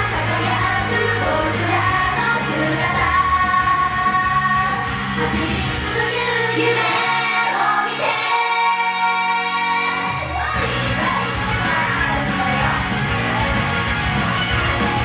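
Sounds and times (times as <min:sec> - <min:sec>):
group singing pop song: 0:00.0 - 0:15.0
loud backing track: 0:00.0 - 0:15.0.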